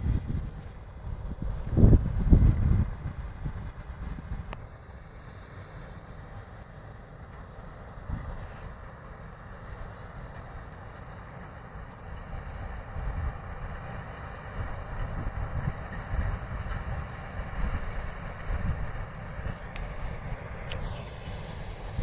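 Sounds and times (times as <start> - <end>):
combine harvester rumbling: 0.0 - 22.0.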